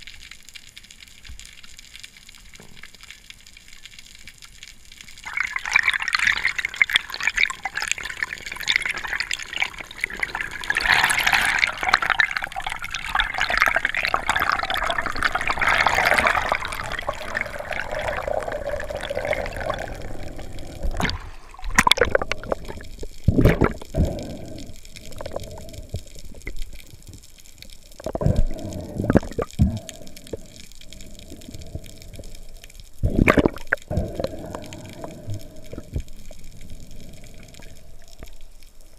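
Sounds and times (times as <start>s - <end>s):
water rushing and bubbling underwater: 0.0s - 38.9s
water splashes: 5.2s - 38.9s.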